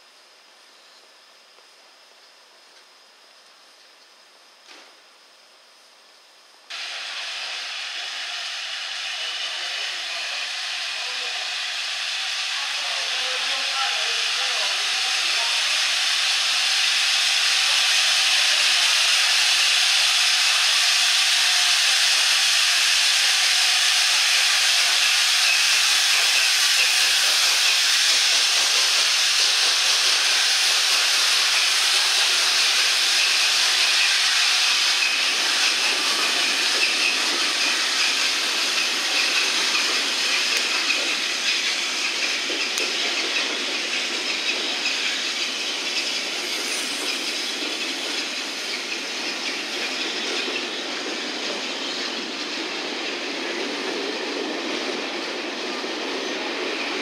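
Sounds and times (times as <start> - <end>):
steam locomotive hissing steam: 6.7 - 57.0.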